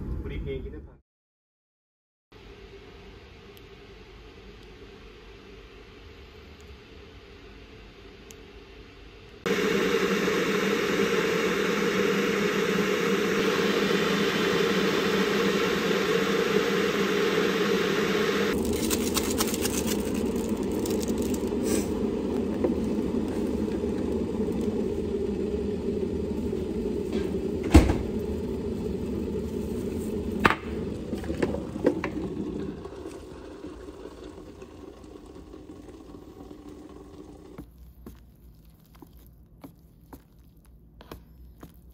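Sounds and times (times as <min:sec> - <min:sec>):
electric kettle heating water: 0:02.4 - 0:38.2.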